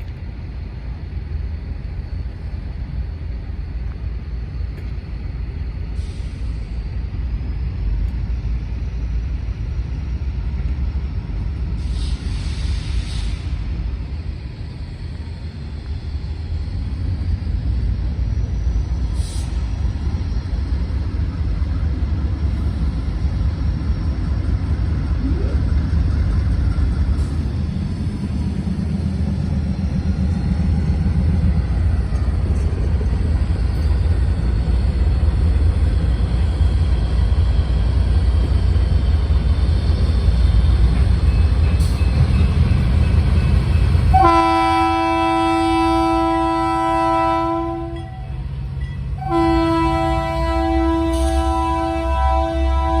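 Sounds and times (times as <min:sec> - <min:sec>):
diesel locomotives rumbling: 0:00.0 - 0:53.0.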